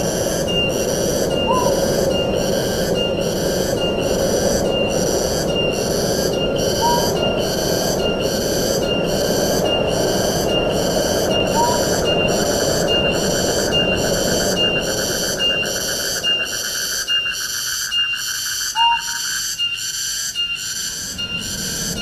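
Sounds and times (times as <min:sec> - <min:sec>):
wind rushing: 0:00.0 - 0:16.6, 0:21.0 - 0:22.0
high pulsing call: 0:00.0 - 0:22.0.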